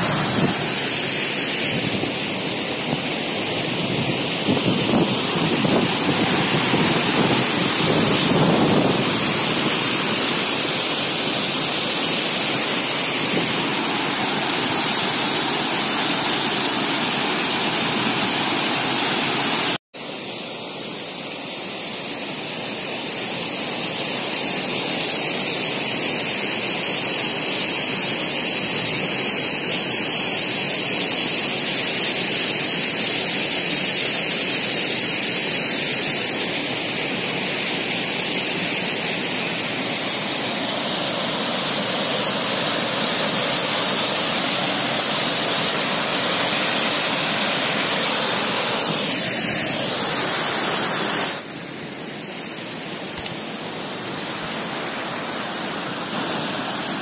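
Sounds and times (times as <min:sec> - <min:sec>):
waterfall pouring into pool: 0:00.0 - 0:57.0.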